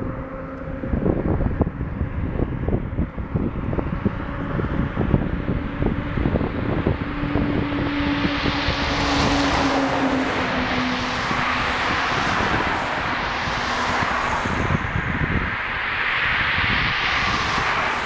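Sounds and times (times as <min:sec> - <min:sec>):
car passing: 0:00.0 - 0:18.0
lorry passing: 0:00.0 - 0:18.0
tyres rushing on asphalt: 0:00.0 - 0:18.0.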